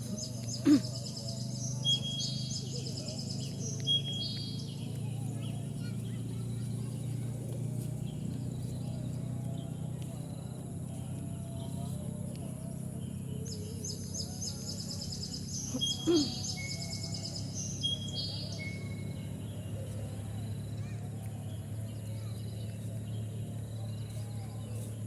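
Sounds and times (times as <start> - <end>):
small bird chirping: 0.0 - 12.0, 13.0 - 25.0
low background hum: 0.0 - 25.0.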